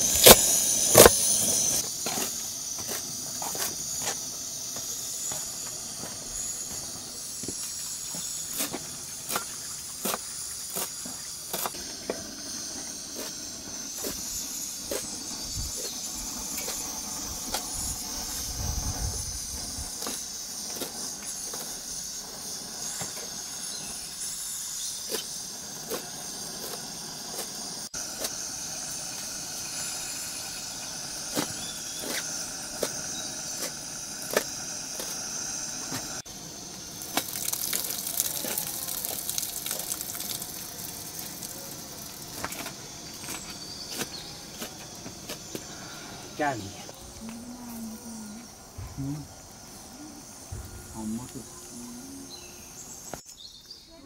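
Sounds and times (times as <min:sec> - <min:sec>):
gas burner hissing: 0:00.0 - 0:53.3.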